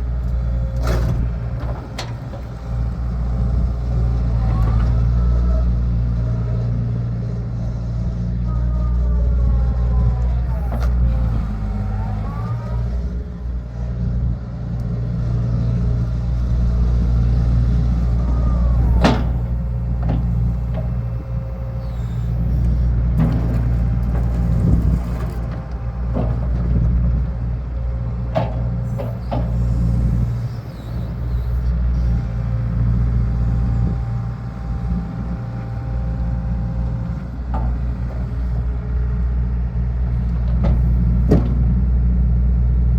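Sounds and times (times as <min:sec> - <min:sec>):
heavy engines rumbling: 0:00.0 - 0:42.9.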